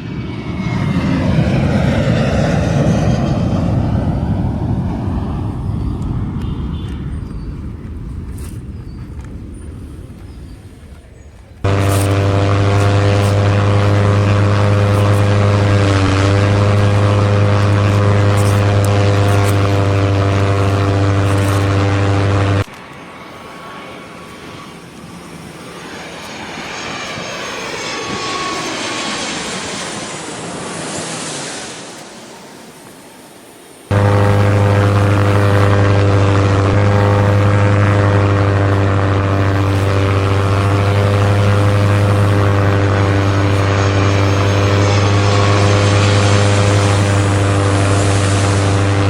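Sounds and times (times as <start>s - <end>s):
toy aeroplane droning hum: 0.0s - 49.0s
whooshing aeroplane drone: 0.0s - 49.0s.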